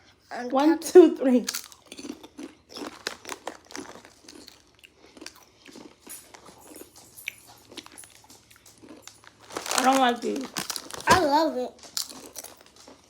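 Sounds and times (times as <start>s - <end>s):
potato chips crunching: 1.5s - 13.0s.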